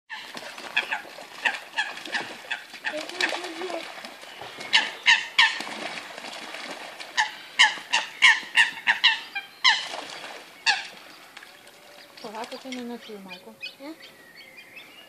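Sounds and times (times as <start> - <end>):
coots calling: 0.1 - 6.0, 7.0 - 15.0
water splashing: 0.1 - 14.0.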